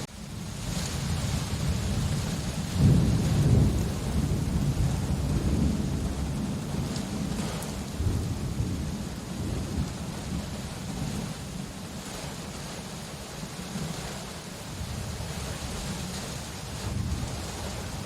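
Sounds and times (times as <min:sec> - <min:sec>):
thunder rumble: 0:00.0 - 0:12.4, 0:14.8 - 0:18.0
steady rain: 0:00.0 - 0:18.0.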